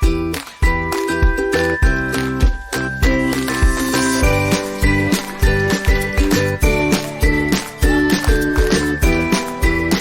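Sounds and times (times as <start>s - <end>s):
music with steady beat and chimes: 0.0s - 10.0s.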